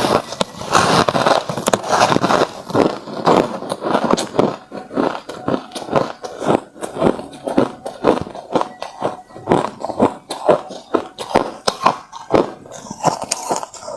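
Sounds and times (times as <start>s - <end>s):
person crunching ice: 0.0s - 13.9s.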